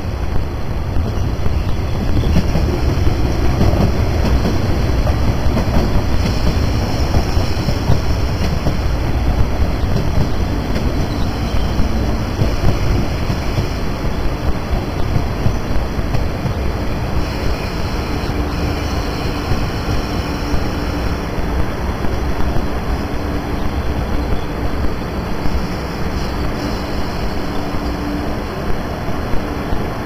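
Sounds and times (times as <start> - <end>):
electric train running past: 0.0 - 30.0.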